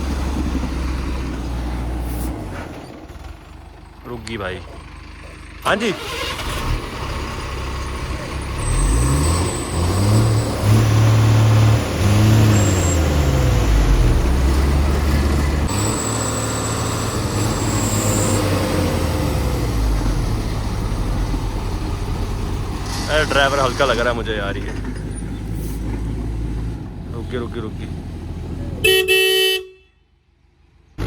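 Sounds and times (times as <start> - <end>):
heavy diesel engine revving: 0.0 - 29.4.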